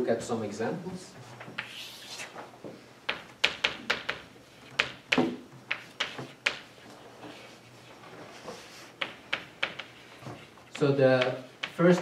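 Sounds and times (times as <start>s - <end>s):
chalk tapping and scratching on blackboard: 1.5s - 12.0s.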